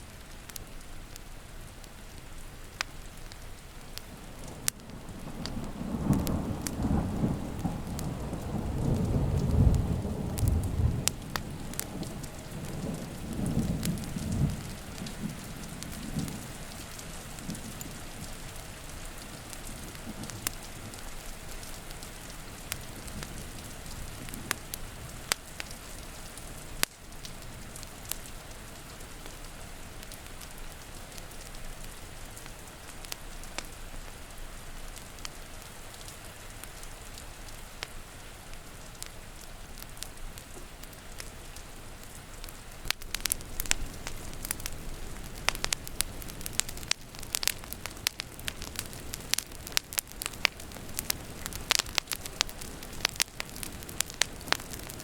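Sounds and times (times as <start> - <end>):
rain pattering: 0.0 - 55.0
wood fire crackling and popping: 0.0 - 55.0.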